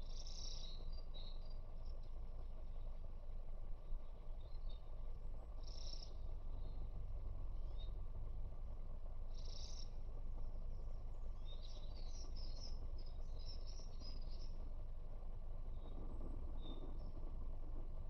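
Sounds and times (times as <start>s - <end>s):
small birds chirping: 0.0s - 3.1s, 3.8s - 8.2s, 9.2s - 14.8s, 15.6s - 17.2s
low outdoor rumble: 0.0s - 18.0s.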